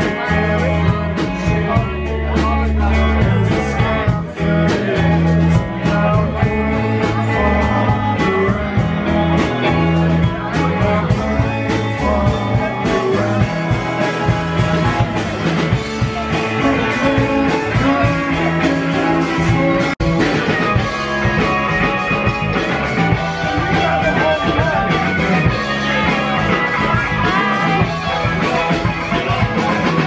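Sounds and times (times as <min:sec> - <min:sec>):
drum beat: 0:00.0 - 0:30.0
electric guitars: 0:00.0 - 0:30.0.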